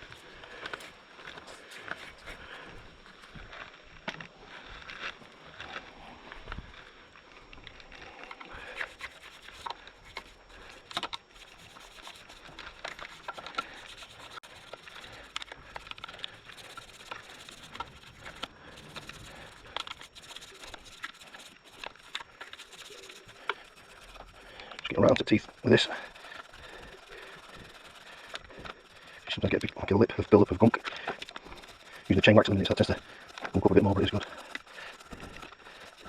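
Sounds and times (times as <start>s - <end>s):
brush scrubbing a metal chain: 0.0s - 2.8s, 8.6s - 36.0s.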